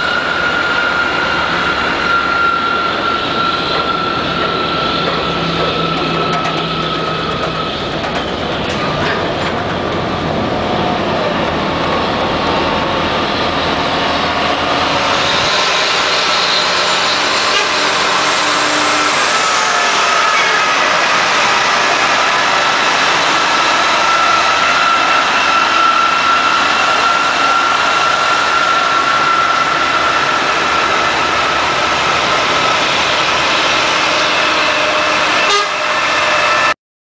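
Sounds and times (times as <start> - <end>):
trucks rolling past: 1.8 - 36.8.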